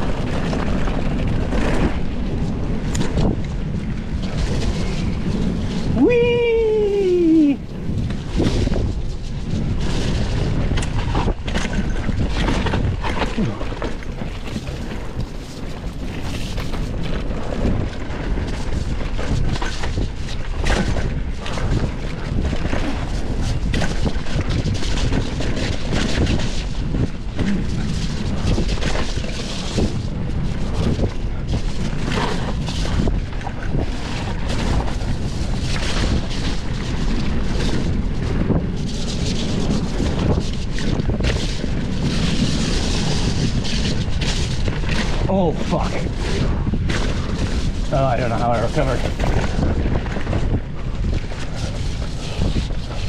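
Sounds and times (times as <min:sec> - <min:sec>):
mountain bike rattling: 0:00.0 - 0:53.0
wind noise on microphone: 0:00.0 - 0:53.0.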